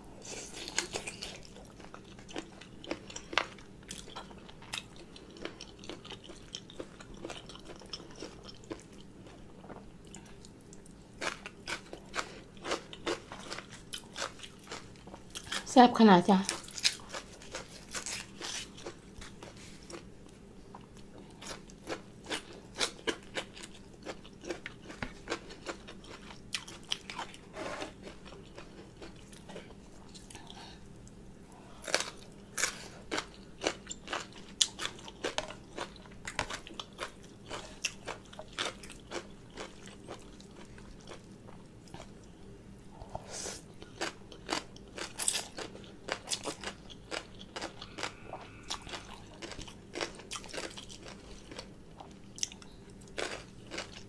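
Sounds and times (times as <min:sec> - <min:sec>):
person chewing crunchy food: 0:00.1 - 0:15.7, 0:16.5 - 0:42.3, 0:42.9 - 0:54.0.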